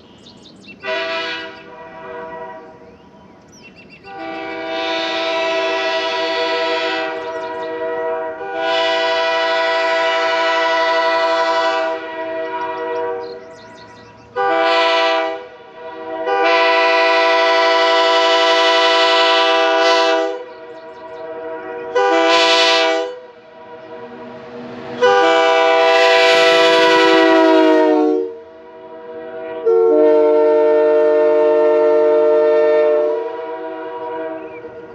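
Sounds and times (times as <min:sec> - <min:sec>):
train horn blasts: 0:00.8 - 0:03.0, 0:04.0 - 0:34.9.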